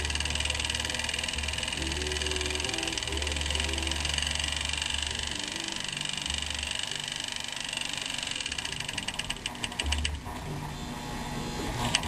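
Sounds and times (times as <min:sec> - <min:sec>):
sewing machine motor whine: 0:00.0 - 0:10.0
rapid ticking: 0:00.0 - 0:10.2.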